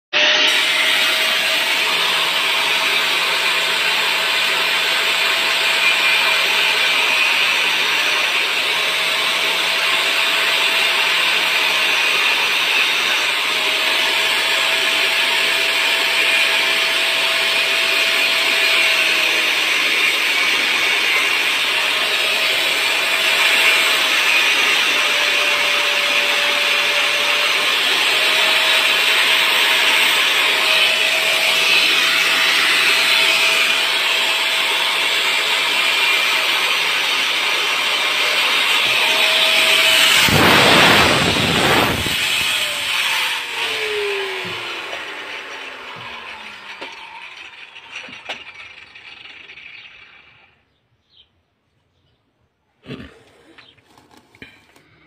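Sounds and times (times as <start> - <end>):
angle grinder cutting horn: 0.1 - 50.5.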